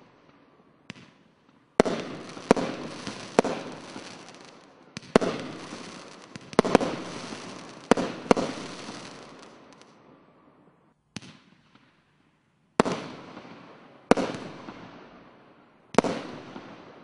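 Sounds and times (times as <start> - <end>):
fireworks bangs with hiss: 0.0 - 10.2, 12.8 - 15.2, 15.9 - 17.0.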